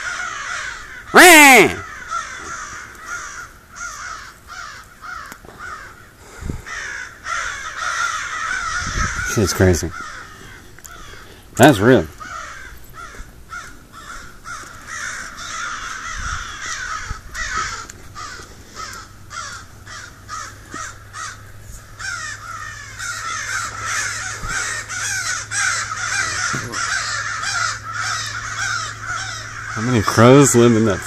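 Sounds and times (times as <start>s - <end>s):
flock of crows cawing: 0.0s - 31.0s.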